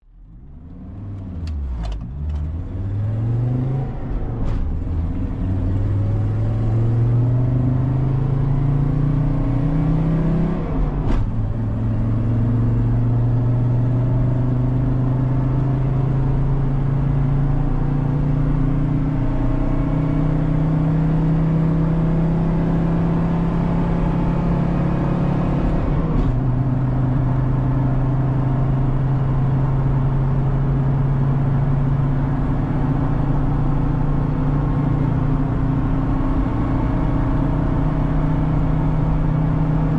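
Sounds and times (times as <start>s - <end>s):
diesel engine accelerating: 0.0s - 39.9s.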